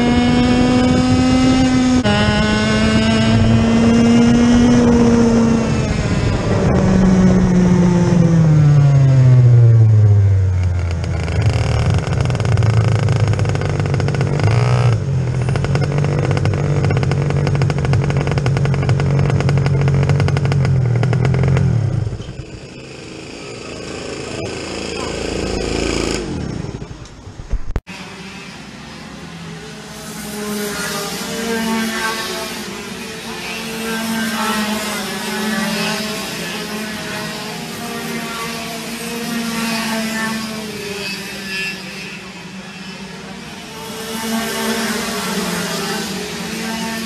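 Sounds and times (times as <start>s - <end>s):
faint kart engines: 0.0s - 47.0s
kart engine: 0.0s - 47.0s.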